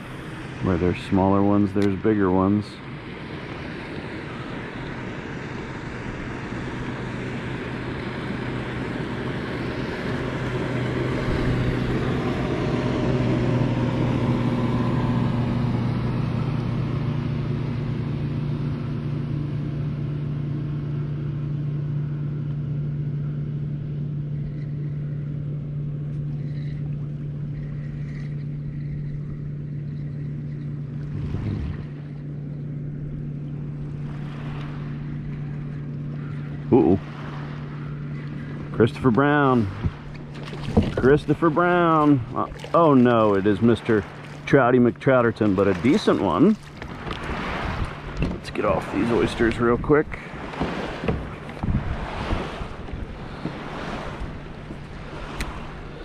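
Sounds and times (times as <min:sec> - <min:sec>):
motorboat engine droning: 0:00.0 - 0:56.0
water noise: 0:00.0 - 0:56.0
wind: 0:00.0 - 0:56.0.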